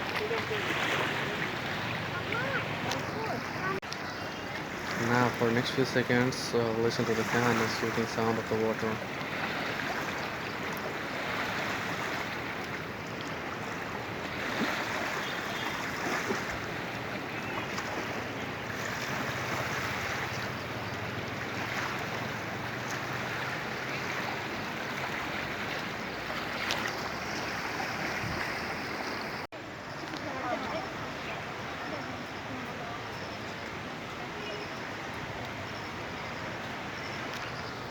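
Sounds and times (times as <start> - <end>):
river water rushing: 0.0 - 37.9.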